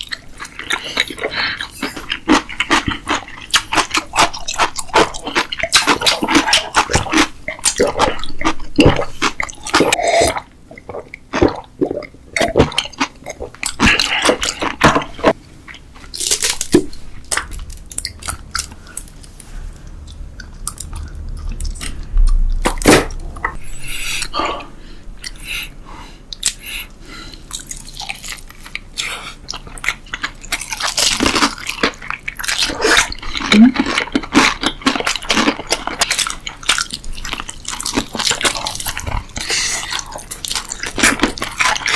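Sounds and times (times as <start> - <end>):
person chewing and crunching food: 0.0 - 41.9.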